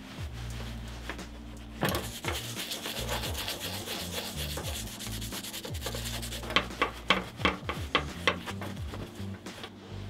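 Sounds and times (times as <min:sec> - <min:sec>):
brush scrubbing leather: 0:00.0 - 0:09.7.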